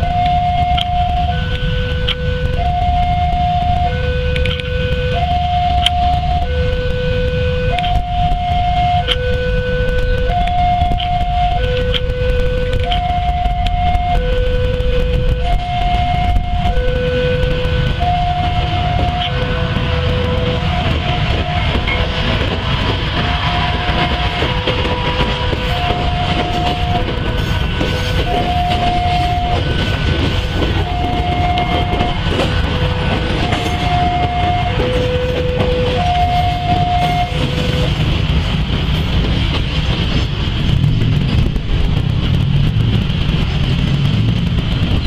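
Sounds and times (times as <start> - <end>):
two-tone crossing alarm: 0.0 - 38.3
passing train rumble: 0.0 - 45.0.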